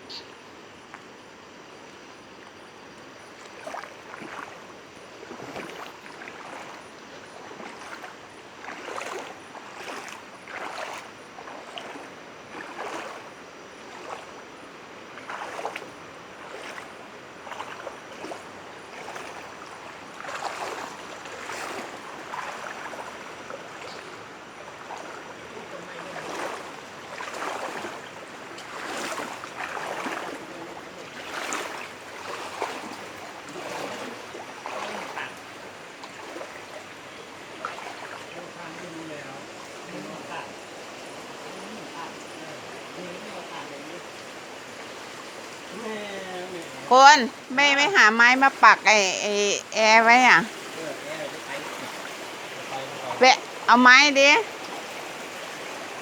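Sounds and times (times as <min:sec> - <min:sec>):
steady rush of water: 0:00.0 - 0:56.0
floodwater sloshing and splashing: 0:01.7 - 0:56.0.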